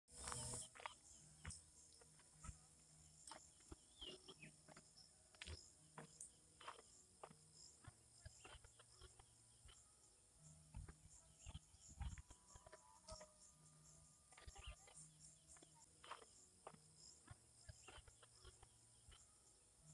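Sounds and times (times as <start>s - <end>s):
high-pitched insect drone: 0.1s - 19.9s.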